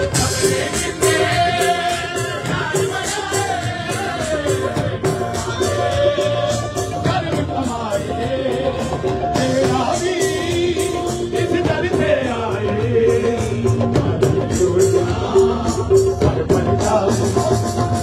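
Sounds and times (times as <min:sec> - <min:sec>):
man singing into a microphone: 0:00.0 - 0:18.0
steady drumbeat: 0:00.0 - 0:18.0.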